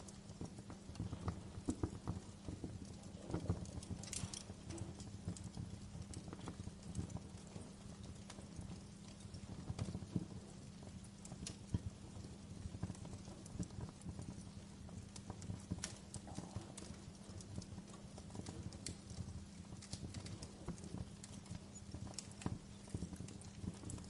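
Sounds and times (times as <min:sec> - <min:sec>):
fire pops and snaps: 0:00.0 - 0:24.0
low rumble of burning logs: 0:00.0 - 0:24.0.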